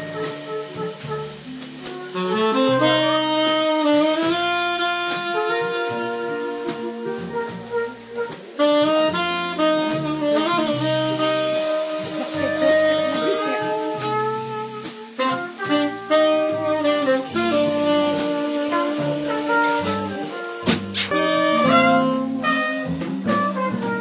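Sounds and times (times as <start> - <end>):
drums: 0.0 - 24.0
jazz saxophone melody: 0.0 - 24.0
walking bass line: 0.0 - 24.0.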